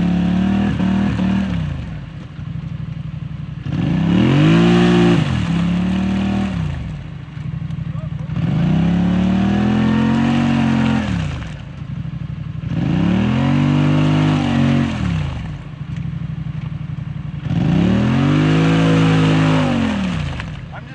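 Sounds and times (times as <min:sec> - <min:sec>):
atv engine revving: 0:00.0 - 0:20.9
wheels spinning in mud: 0:00.0 - 0:20.9.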